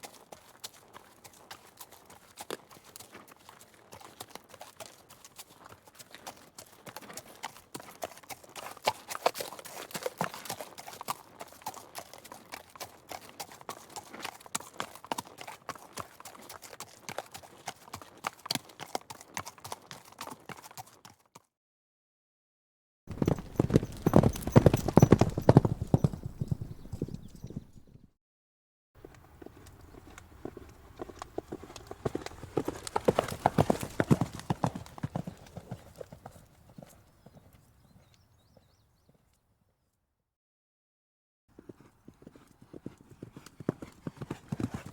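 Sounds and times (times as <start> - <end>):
horse hooves clip-clopping: 0.0 - 21.4, 23.1 - 28.1, 29.0 - 39.1, 41.6 - 44.9.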